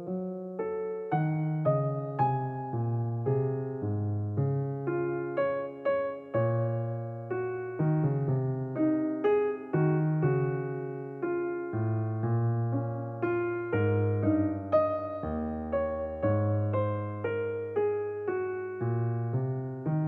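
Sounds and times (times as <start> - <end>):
soft piano music: 0.0 - 20.0.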